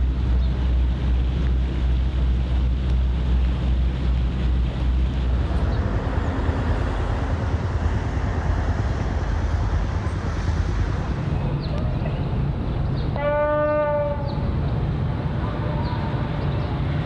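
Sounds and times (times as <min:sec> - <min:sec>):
low rumble: 0:00.0 - 0:17.0
wind on microphone: 0:00.0 - 0:17.0.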